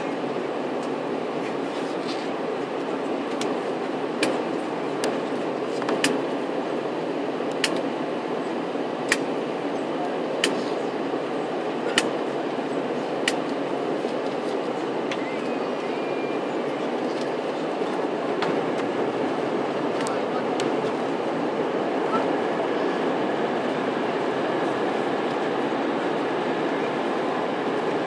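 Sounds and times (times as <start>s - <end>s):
airliner engine and airflow rush: 0.0s - 28.0s.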